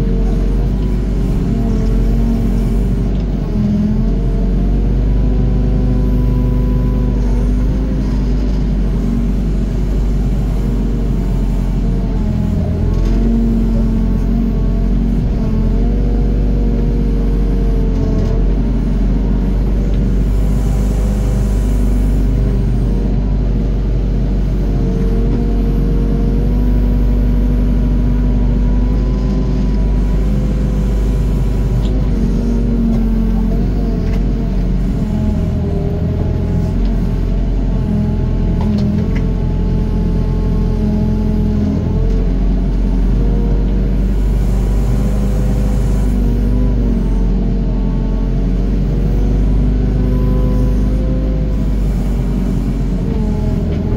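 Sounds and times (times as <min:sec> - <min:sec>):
excavator diesel engine rumbling: 0:00.0 - 0:53.9.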